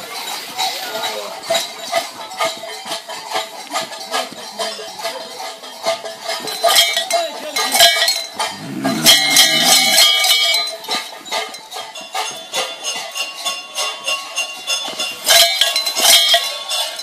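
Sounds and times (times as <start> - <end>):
cowbells clanging: 0.0 - 17.0.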